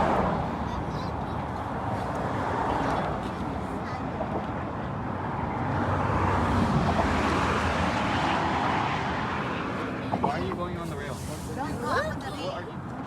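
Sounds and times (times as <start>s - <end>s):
passing cars rumbling: 0.0s - 13.0s.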